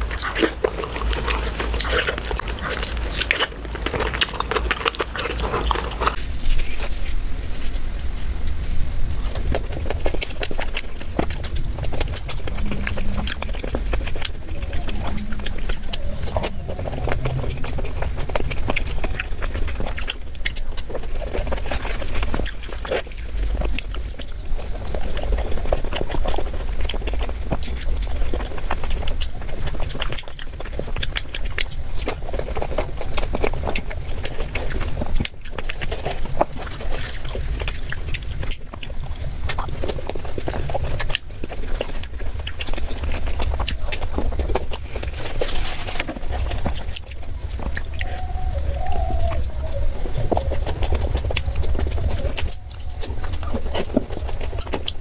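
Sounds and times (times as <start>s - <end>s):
person chewing with wet mouth sounds: 0.0s - 55.0s
steady low hum: 0.0s - 55.0s.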